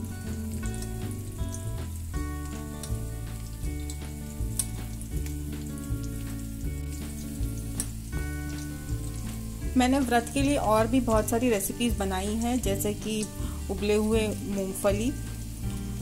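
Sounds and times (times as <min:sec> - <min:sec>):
background music with bass line: 0:00.0 - 0:16.0
potatoes sizzling in oil: 0:00.0 - 0:16.0.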